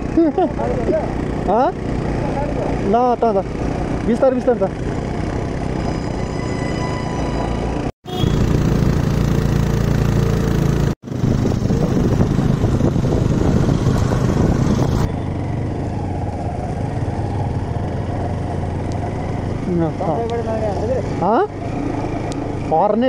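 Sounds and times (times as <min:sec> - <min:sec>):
small motorcycle engines: 0:00.0 - 0:06.2, 0:07.8 - 0:23.0
muffled motorcycle engine hum: 0:00.0 - 0:06.3, 0:07.3 - 0:23.0.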